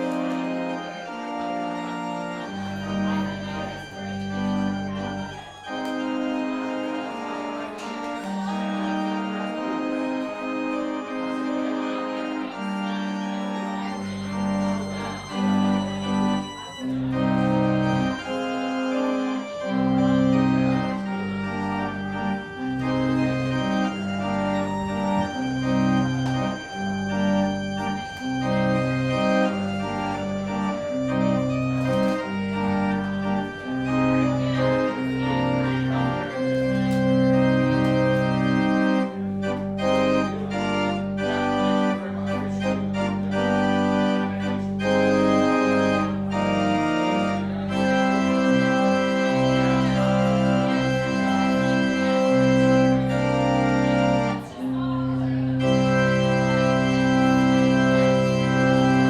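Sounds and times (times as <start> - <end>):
church organ chords: 0.0 - 59.0
deep organ pedal bass notes: 0.0 - 59.0.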